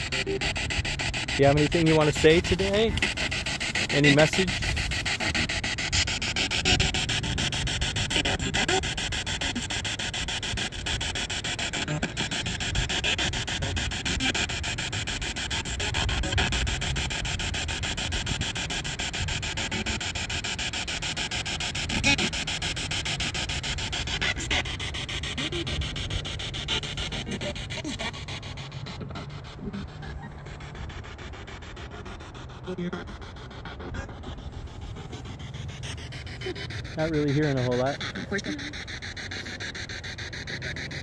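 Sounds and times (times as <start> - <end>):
chopped radio static: 0.0 - 41.0.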